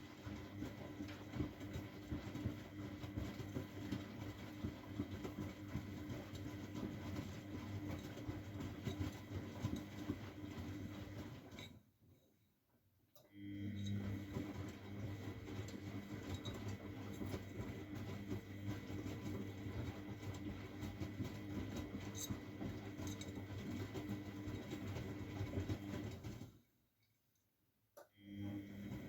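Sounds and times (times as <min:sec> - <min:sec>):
washing machine motor hum: 0:00.0 - 0:11.9, 0:13.2 - 0:26.6, 0:28.2 - 0:29.0.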